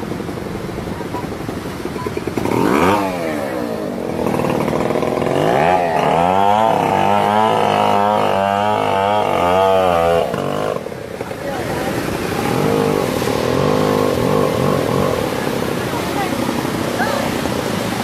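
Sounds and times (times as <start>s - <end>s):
small engine revving: 2.1s - 18.0s.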